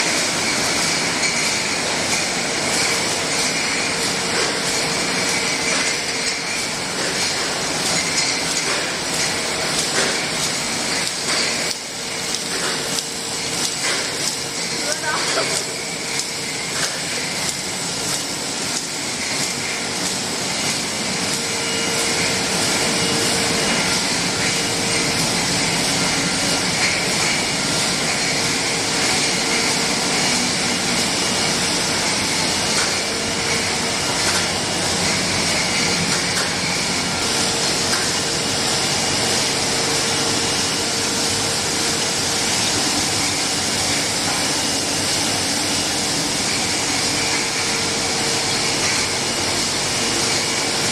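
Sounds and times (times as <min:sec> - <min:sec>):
machine hiss and whir: 0:00.0 - 0:50.9.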